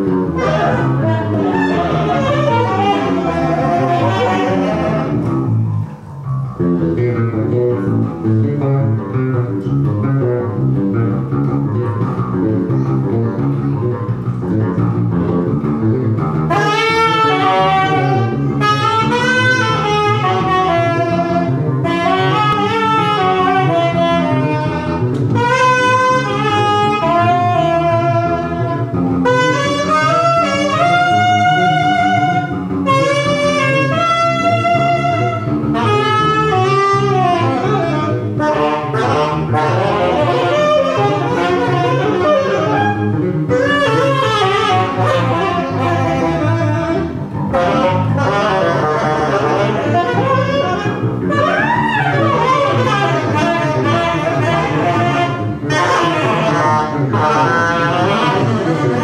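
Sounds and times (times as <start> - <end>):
jazz bass line: 0.0 - 59.0
wind instrument melody: 0.0 - 59.0.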